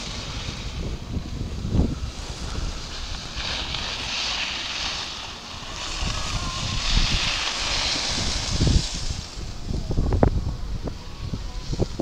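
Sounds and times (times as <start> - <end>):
skis sliding on packed snow: 0.0 - 9.9
wind buffeting microphone: 0.0 - 12.0.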